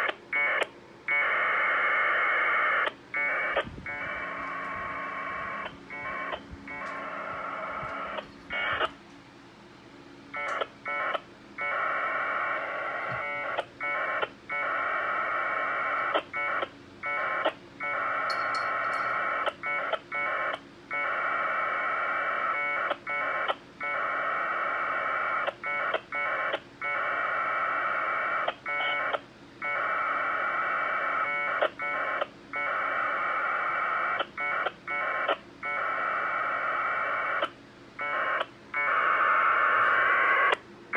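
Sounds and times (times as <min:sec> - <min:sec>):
packet data tones over radio: 0:00.0 - 0:09.0, 0:10.3 - 0:40.6.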